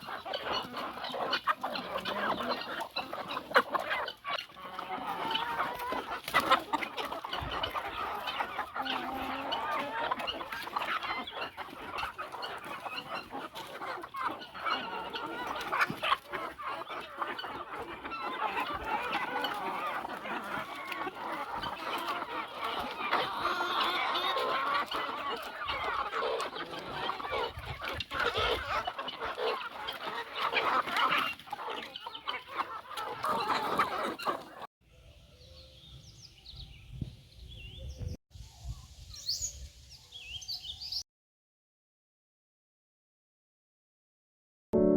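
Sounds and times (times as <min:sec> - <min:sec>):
chickens clucking: 0:00.0 - 0:41.0.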